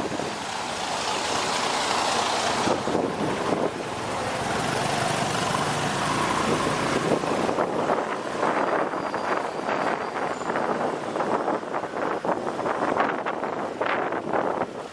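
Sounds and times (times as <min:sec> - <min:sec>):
road and wind noise: 0:00.0 - 0:14.9.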